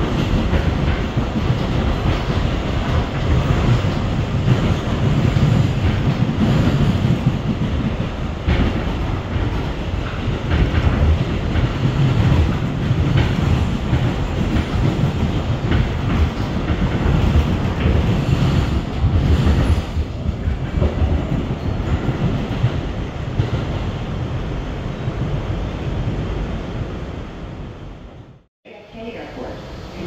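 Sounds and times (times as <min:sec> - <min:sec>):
steel wheels rumbling on rail: 0:00.0 - 0:28.5.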